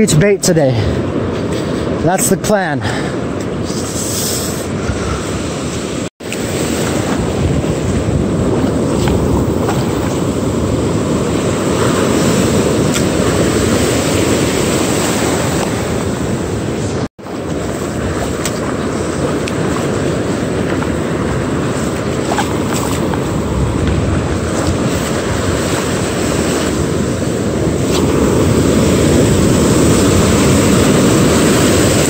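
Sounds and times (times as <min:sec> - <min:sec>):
ocean surf washing up beach: 0:00.0 - 0:32.0
wind on microphone: 0:03.2 - 0:32.0.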